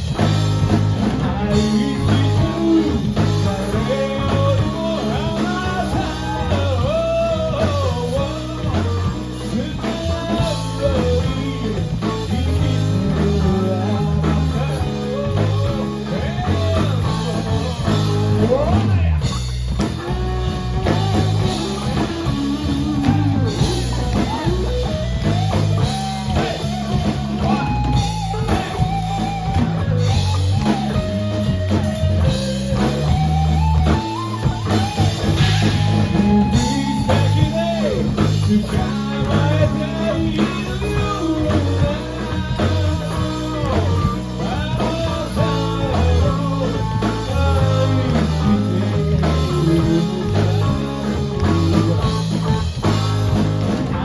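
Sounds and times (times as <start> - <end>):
bass line: 0.0 - 54.0
drum kit: 0.0 - 54.0
electric guitar lines: 0.0 - 54.0.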